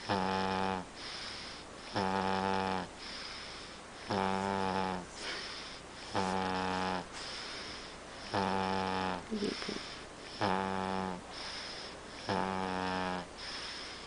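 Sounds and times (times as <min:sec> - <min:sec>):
person snoring: 0:00.0 - 0:03.4, 0:04.0 - 0:14.0
soft breathing: 0:00.9 - 0:02.1, 0:02.8 - 0:12.4, 0:13.2 - 0:14.0.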